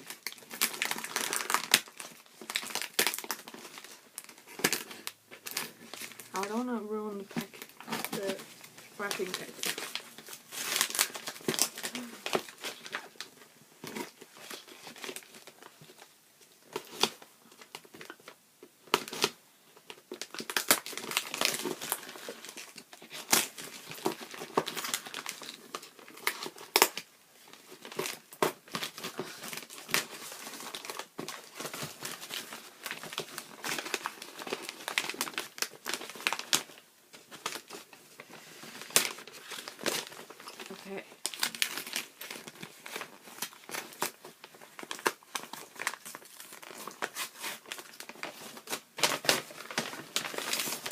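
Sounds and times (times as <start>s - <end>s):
wrapping paper crinkling: 0.0s - 50.9s.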